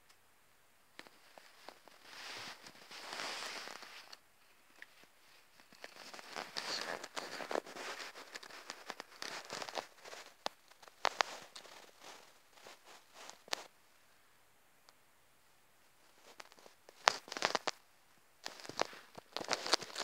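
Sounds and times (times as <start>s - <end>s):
fabric rustling and crackling: 1.0s - 13.8s, 16.0s - 17.8s, 18.4s - 20.0s.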